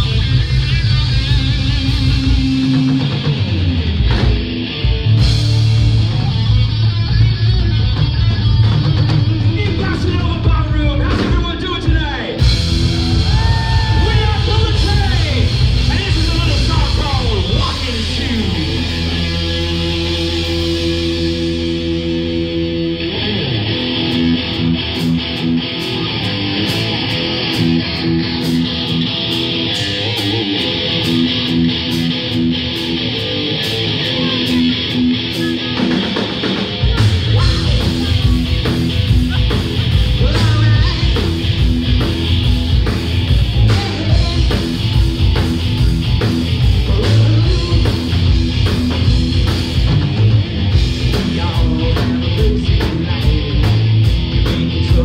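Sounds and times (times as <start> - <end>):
drums and bass: 0.0 - 55.0
electric guitar riff: 0.0 - 55.0.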